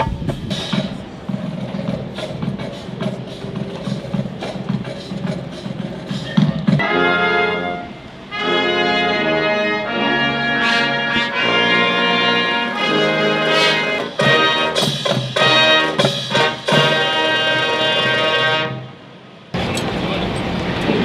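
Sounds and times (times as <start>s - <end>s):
brass ensemble playing chords: 0.5s - 20.0s.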